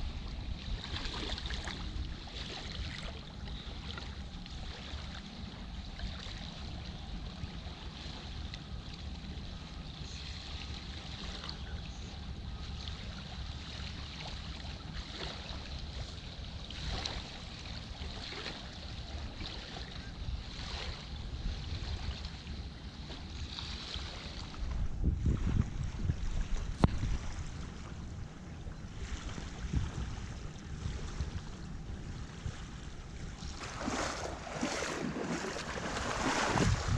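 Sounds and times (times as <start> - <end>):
water splashing around a canoe: 0.0 - 36.9
wind rumble on microphone: 0.0 - 36.9.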